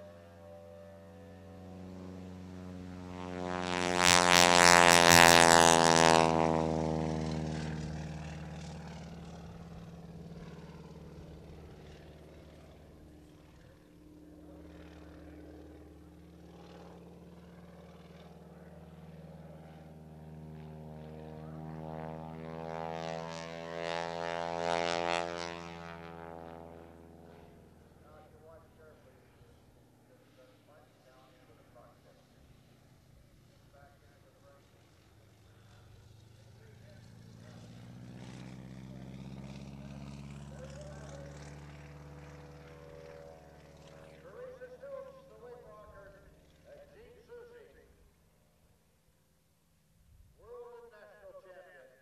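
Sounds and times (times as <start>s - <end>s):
propeller plane flying by: 0.0s - 52.0s.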